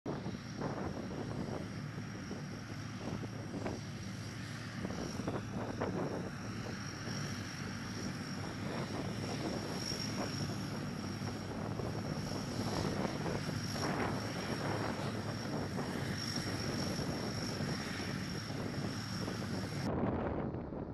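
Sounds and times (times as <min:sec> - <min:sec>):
high turbine whine: 0:00.1 - 0:20.9
low drone of propellers: 0:00.1 - 0:20.9.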